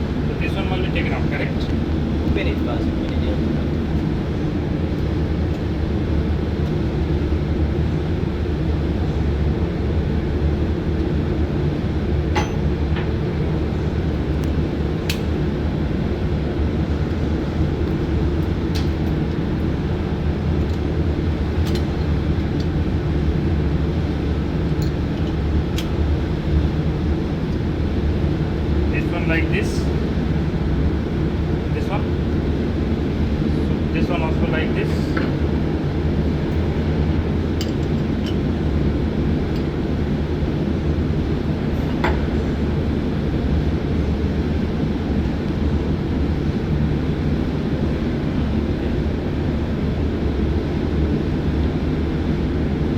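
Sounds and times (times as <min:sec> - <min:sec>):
ship machinery drone: 0:00.0 - 0:52.9.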